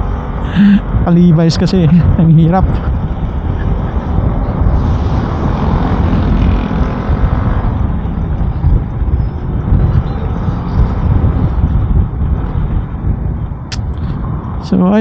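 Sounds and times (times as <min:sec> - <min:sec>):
scooter engine and road noise: 0:00.0 - 0:15.0
wind buffeting microphone: 0:00.0 - 0:15.0.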